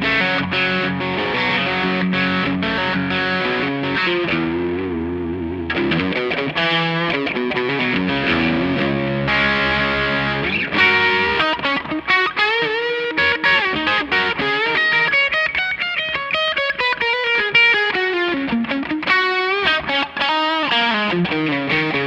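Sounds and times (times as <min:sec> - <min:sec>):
distorted electric guitar: 0:00.0 - 0:22.0.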